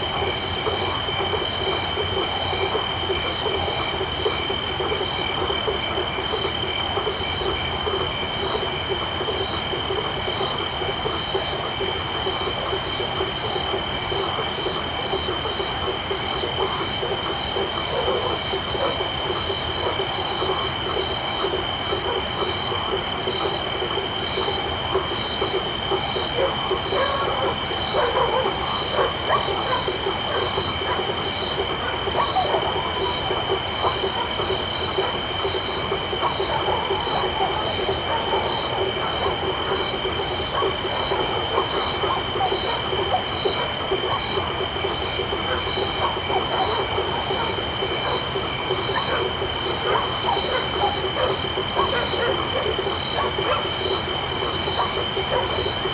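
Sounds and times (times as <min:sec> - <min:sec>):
crickets trilling: 0:00.0 - 0:55.9
frogs calling: 0:00.0 - 0:55.9.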